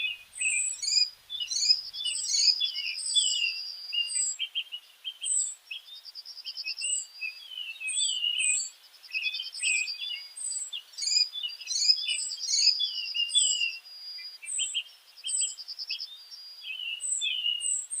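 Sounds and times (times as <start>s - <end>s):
small birds chirping and singing: 0.0s - 18.0s.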